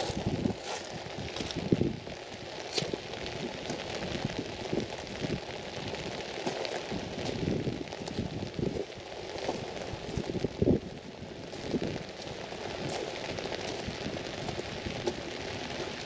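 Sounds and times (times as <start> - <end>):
rain on an umbrella: 0.0 - 16.0.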